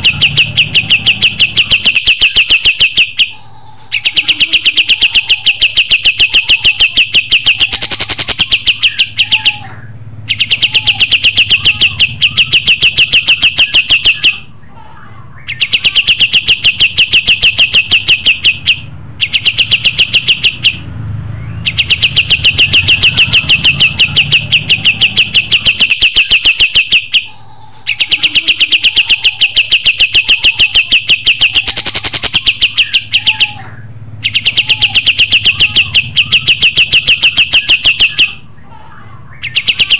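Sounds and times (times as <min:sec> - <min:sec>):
bird singing rapid trill: 0:00.0 - 0:38.7, 0:39.3 - 0:39.9.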